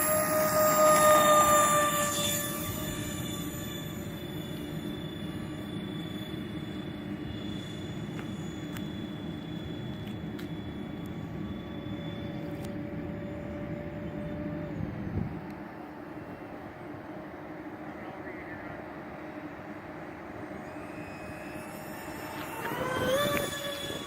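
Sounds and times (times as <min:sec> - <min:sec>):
electric fan whine: 0:00.0 - 0:24.0.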